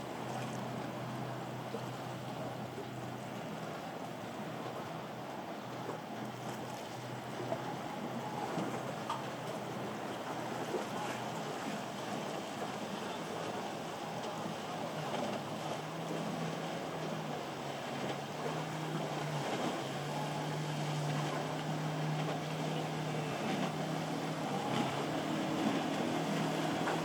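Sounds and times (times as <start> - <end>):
motorboat engines droning: 0.0 - 27.0
surf: 0.0 - 27.0
wind: 0.0 - 27.0.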